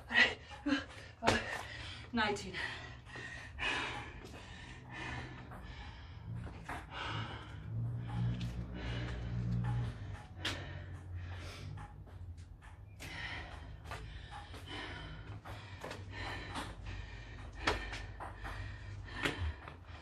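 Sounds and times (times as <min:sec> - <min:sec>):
woman panting: 0:00.0 - 0:20.0.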